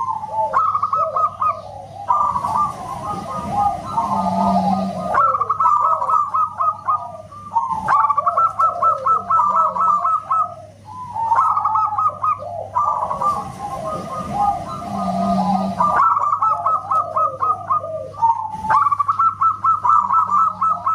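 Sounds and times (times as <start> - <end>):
doves cooing: 0.0 - 20.9.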